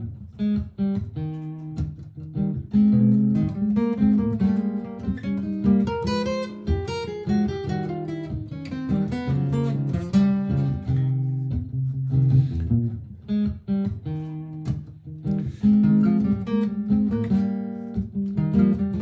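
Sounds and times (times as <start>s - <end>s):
acoustic guitar plucked and strummed: 0.0s - 19.0s.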